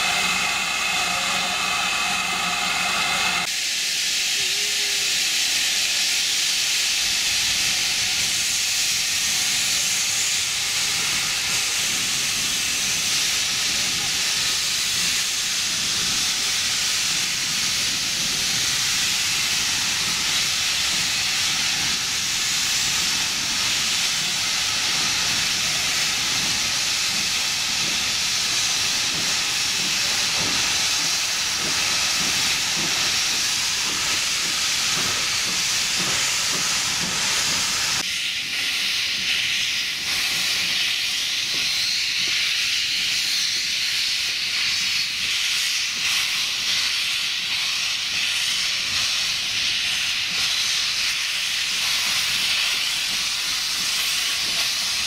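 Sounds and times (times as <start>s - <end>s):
steam hissing: 0.0s - 55.0s.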